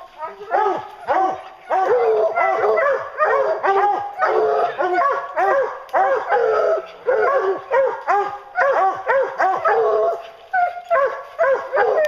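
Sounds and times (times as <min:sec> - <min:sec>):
hounds barking: 0:00.2 - 0:12.0.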